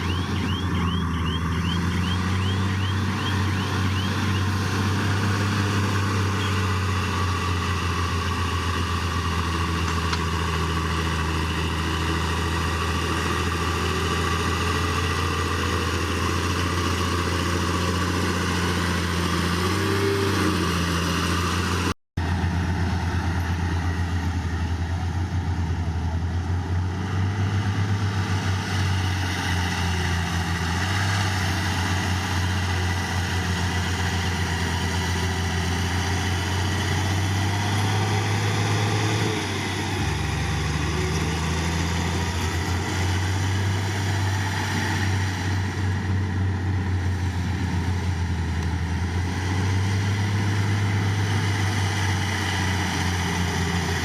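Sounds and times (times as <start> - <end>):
heavy diesel machinery droning: 0.0 - 54.0.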